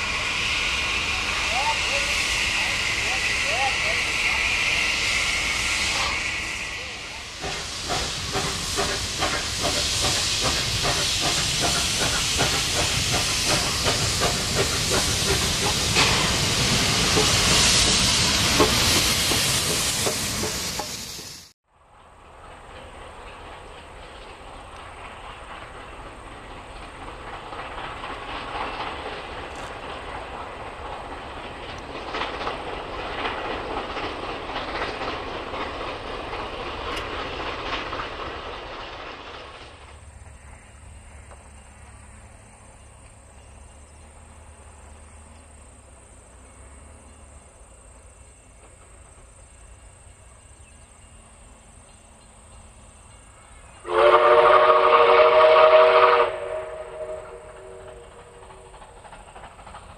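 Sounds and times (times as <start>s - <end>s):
distant low train rumble: 0.0s - 59.9s
train wheels clattering on rails: 5.9s - 59.9s.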